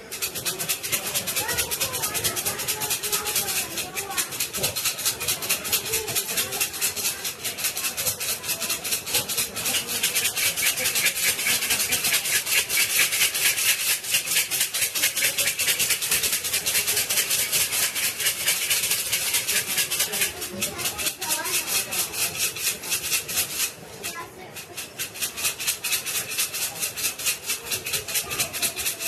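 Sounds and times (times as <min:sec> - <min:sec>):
wooden sticks rattling in cup: 0:00.0 - 0:29.0.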